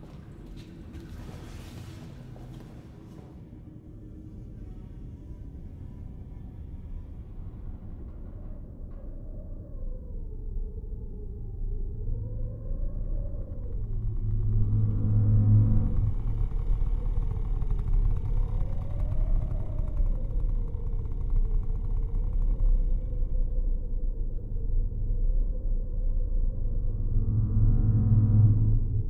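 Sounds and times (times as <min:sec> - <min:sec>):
low rumbling film score drone: 0:00.0 - 0:29.0.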